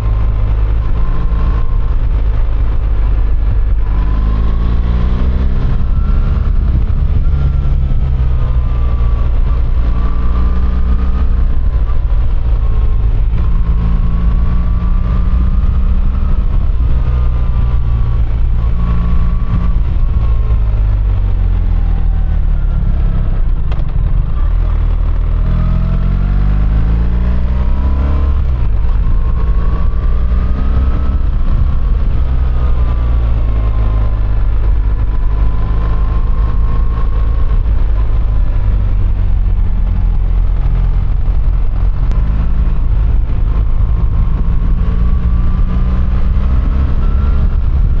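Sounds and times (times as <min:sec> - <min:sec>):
motorcycle engine revving: 0:00.0 - 0:48.0
wind rumble on microphone: 0:00.0 - 0:48.0.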